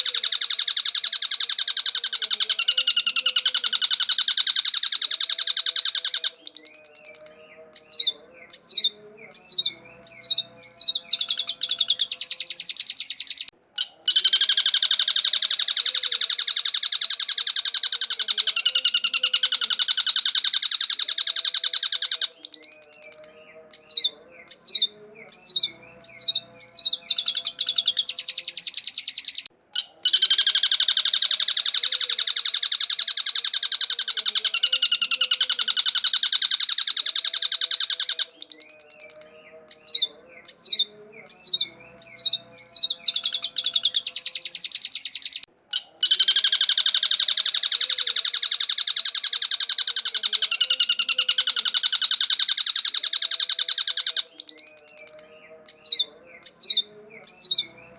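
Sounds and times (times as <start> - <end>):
bird singing with harsh chattering: 0.0 - 57.9.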